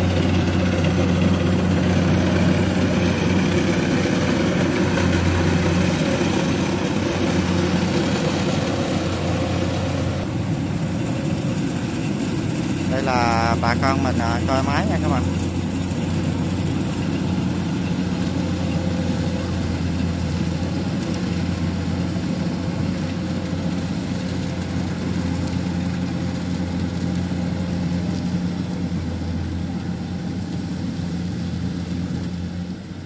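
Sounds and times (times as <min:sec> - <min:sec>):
combine harvester diesel engine drone: 0:00.0 - 0:33.0.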